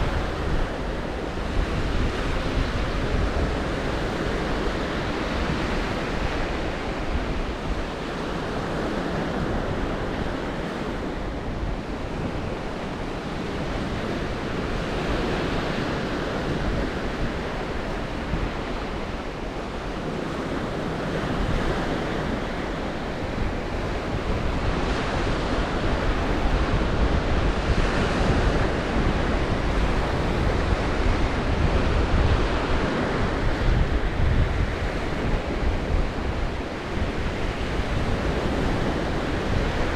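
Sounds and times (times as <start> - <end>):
waves breaking on shore: 0.0 - 39.9
wind buffeting microphone: 0.0 - 39.9.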